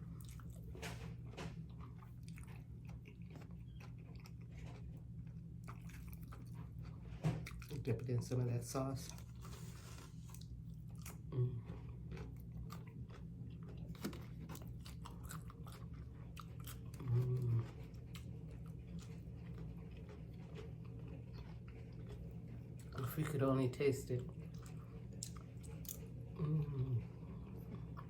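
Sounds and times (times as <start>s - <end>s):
person chewing food: 0.0s - 8.3s, 9.0s - 23.5s, 24.2s - 28.0s.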